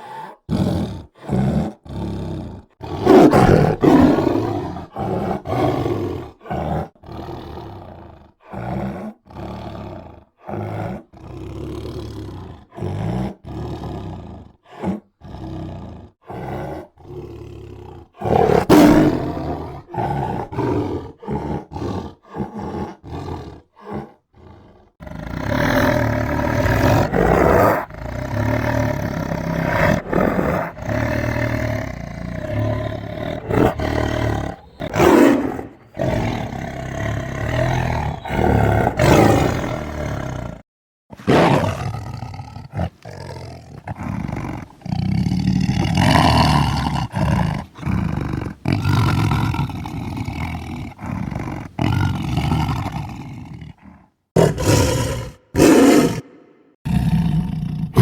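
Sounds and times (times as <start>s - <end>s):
tiger roaring: 0.0s - 58.0s.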